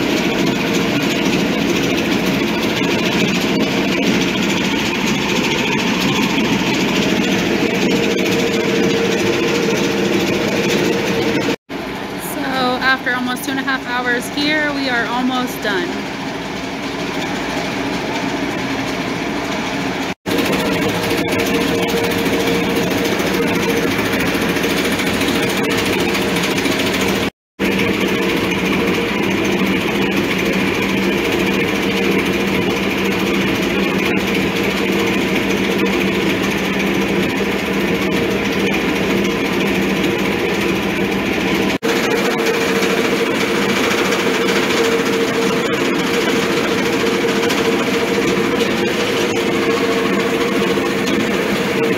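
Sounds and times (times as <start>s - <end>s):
electric grinding mill running: 0.0s - 51.9s.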